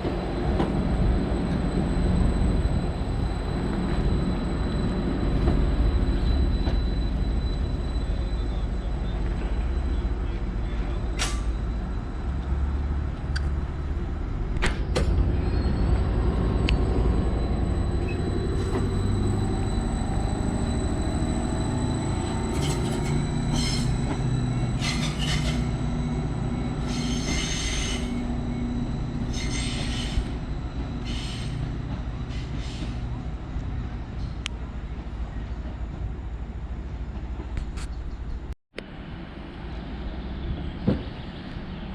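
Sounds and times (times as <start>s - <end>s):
train wheels squealing: 0.0s - 36.0s
diesel train rumbling: 0.0s - 41.9s.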